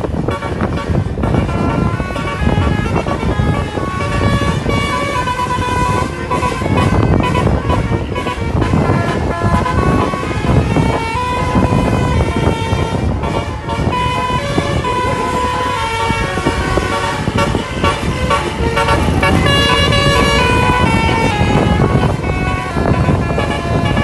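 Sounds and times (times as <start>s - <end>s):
multi-tone bus horn melody: 0.0s - 24.0s
steady low rumble: 0.0s - 24.0s.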